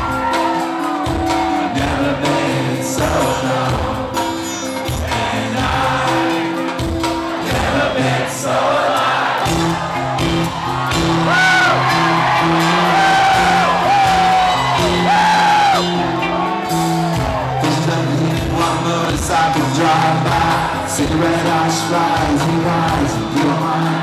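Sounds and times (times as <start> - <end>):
crowd whooping: 0.0 - 4.8, 8.6 - 24.0
live rock band playing: 0.0 - 24.0.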